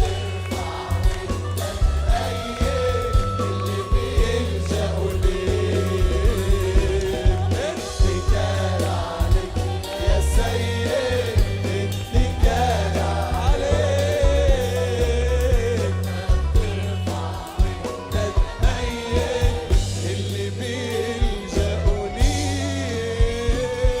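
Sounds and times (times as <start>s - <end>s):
band with bass and beat: 0.0s - 24.0s
voices singing worship song: 0.0s - 24.0s.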